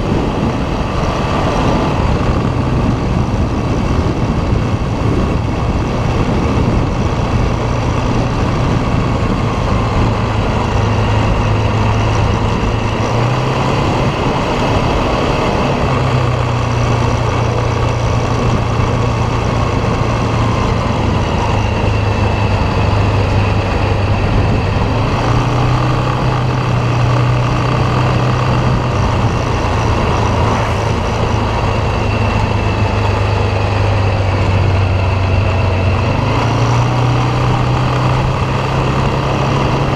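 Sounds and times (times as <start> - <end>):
atv engine running: 0.0 - 39.9
constant rushing noise: 0.0 - 39.9.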